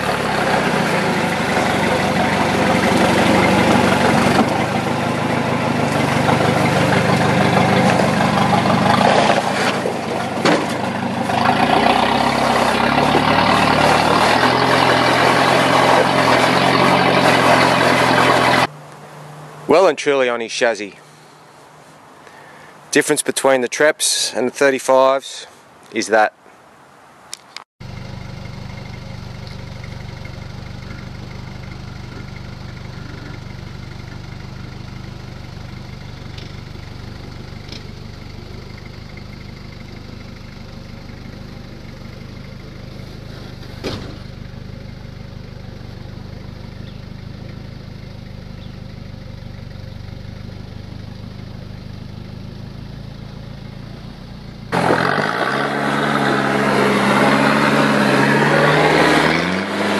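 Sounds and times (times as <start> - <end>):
diesel engine running at low revs: 0.0 - 19.9, 27.8 - 59.9.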